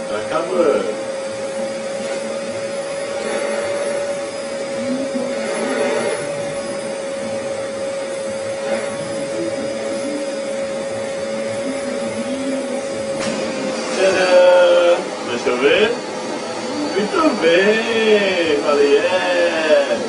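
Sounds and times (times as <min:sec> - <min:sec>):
vacuum cleaner whine: 0:00.0 - 0:20.0.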